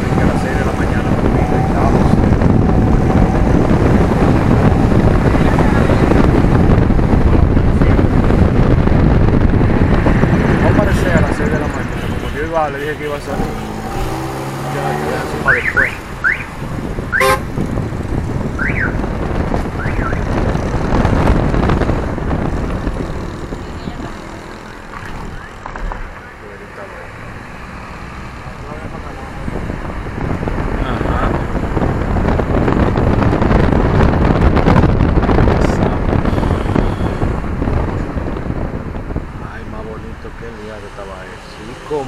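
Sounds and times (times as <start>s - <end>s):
wind buffeting microphone: 0.0s - 26.4s, 27.1s - 42.0s
low traffic rumble: 0.0s - 42.0s.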